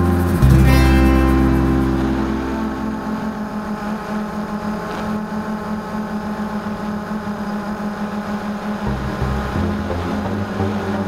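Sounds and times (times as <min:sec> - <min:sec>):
quadcopter motors humming: 0:00.0 - 0:11.0.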